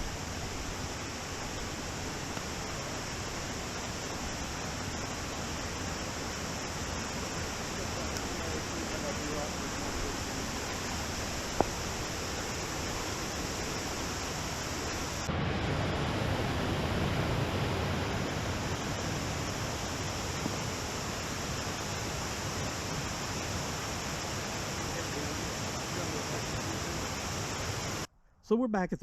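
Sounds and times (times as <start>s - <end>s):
waterfall rushing: 0.0s - 28.1s.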